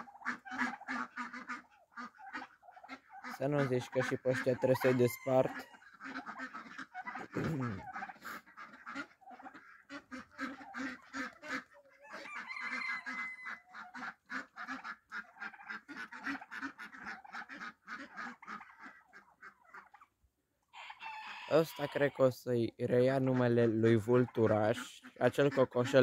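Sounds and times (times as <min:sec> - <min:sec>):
poultry calling: 0:00.0 - 0:26.0.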